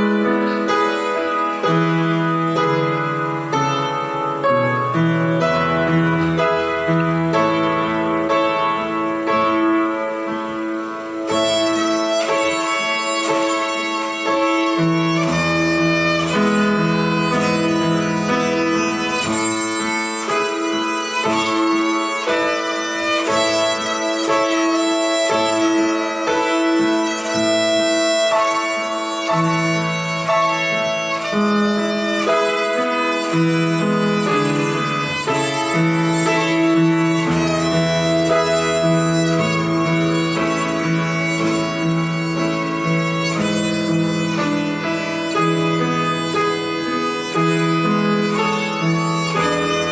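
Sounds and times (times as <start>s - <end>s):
violin melody: 0.0s - 49.9s.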